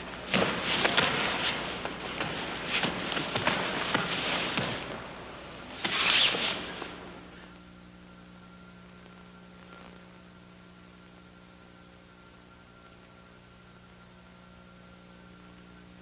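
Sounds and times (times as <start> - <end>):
mains hum and hiss: 0.0 - 16.0.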